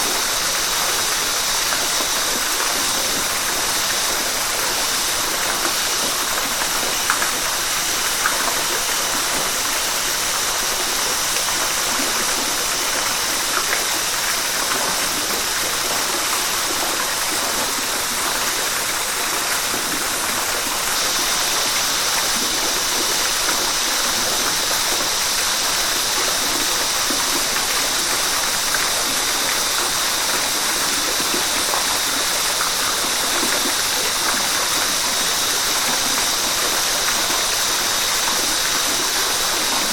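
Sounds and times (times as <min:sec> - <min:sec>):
flowing river rushing: 0:00.0 - 0:39.9.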